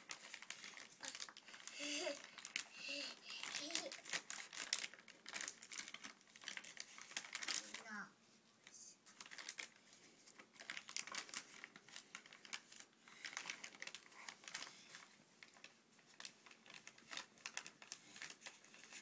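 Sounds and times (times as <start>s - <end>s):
plastic packaging crinkling: 0.0s - 8.0s, 9.1s - 19.0s.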